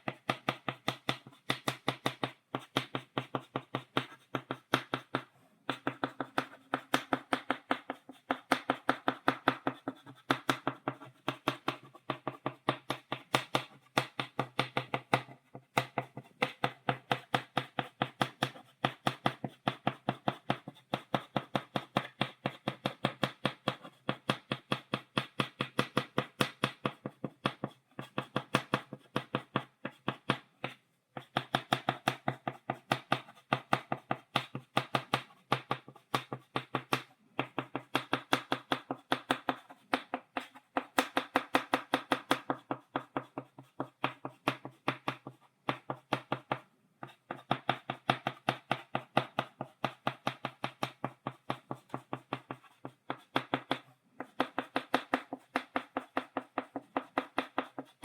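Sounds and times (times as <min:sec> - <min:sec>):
chalk tapping on blackboard: 0:00.0 - 0:58.0.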